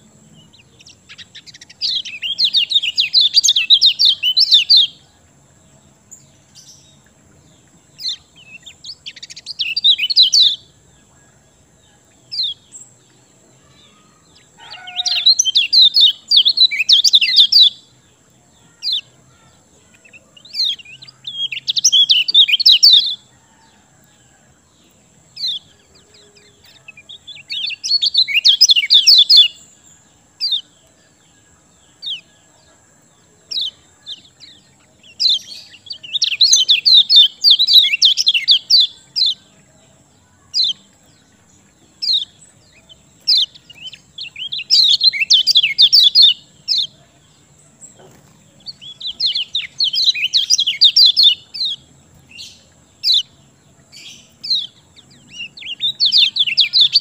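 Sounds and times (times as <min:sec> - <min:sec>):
songbird chirping warbles: 0:00.0 - 0:57.0.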